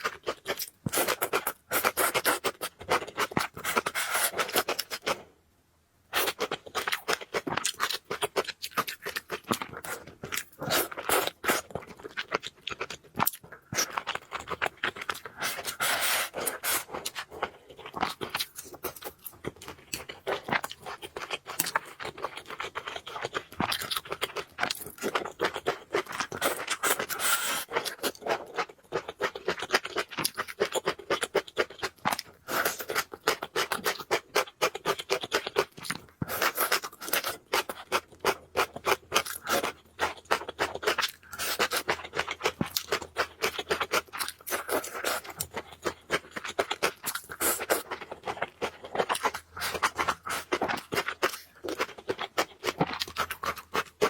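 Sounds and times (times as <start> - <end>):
person chewing noodles: 0.0 - 5.2, 6.2 - 54.0.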